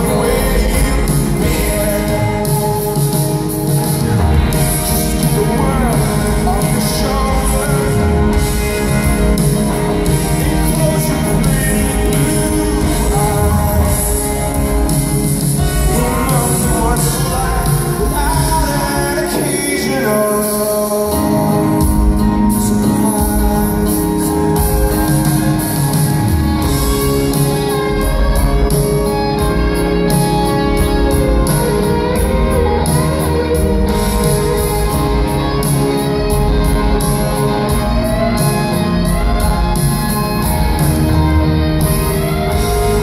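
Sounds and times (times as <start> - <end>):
person singing: 0.0 - 43.0
rock band playing live: 0.0 - 43.0.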